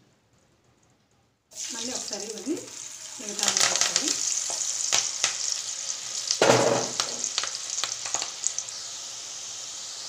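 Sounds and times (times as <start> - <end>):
potato sticks sizzling in oil: 1.5 - 10.0.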